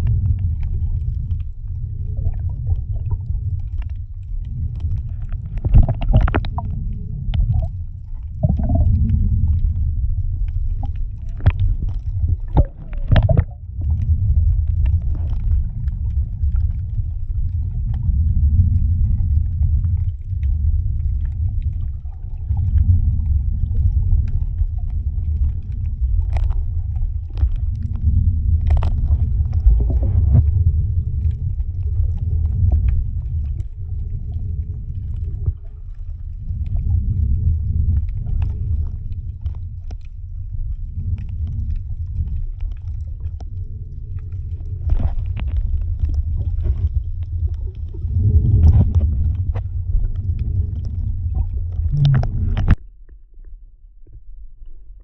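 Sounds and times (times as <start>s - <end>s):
moving boat rumble: 0.0s - 55.0s.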